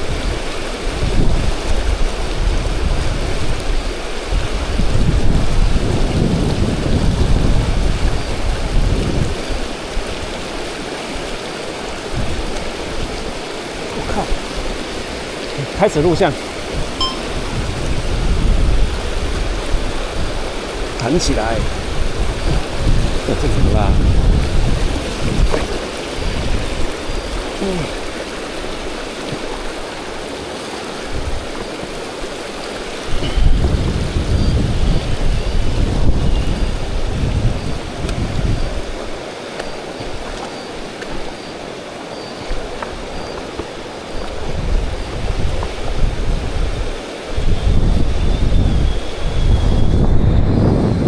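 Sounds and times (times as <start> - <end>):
rushing river water: 0.0 - 51.0
wind buffeting microphone: 0.0 - 51.0.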